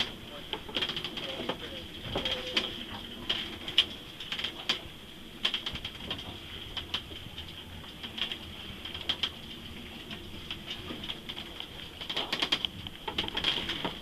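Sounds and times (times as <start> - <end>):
waves: 0.0 - 14.0
yacht knocks and creaks: 0.0 - 14.0.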